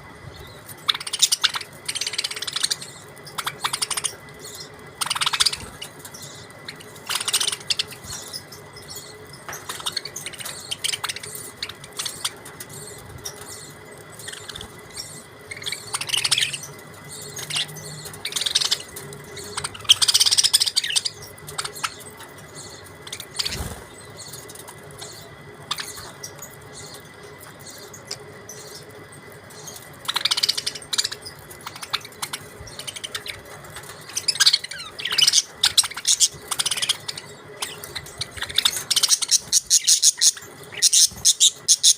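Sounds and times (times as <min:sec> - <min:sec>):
faint steady hum: 0:00.0 - 0:41.9
budgerigars chirping: 0:00.4 - 0:28.9, 0:29.5 - 0:41.9.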